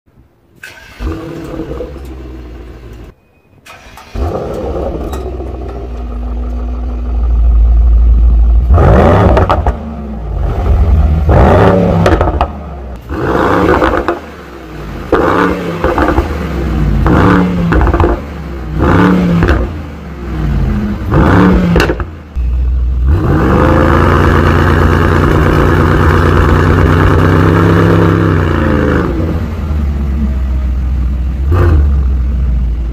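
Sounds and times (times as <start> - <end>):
car engine revving: 3.7 - 22.2, 22.9 - 32.9.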